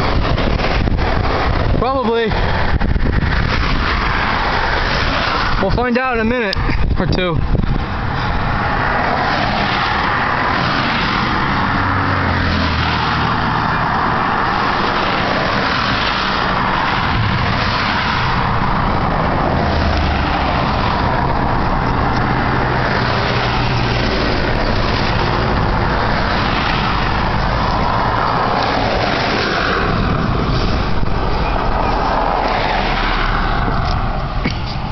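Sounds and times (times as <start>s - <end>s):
road and engine noise inside car: 0.0s - 34.9s.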